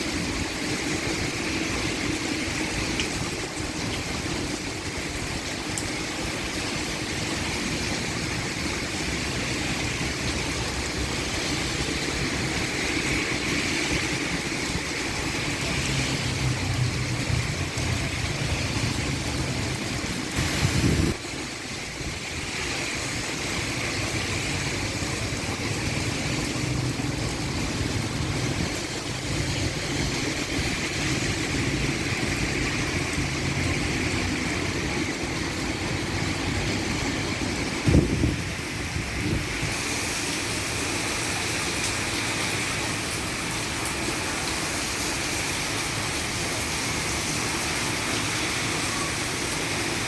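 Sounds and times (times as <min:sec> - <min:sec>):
heavy rain on a roof: 0:00.0 - 0:50.0
runoff streaming from eaves: 0:00.0 - 0:50.0.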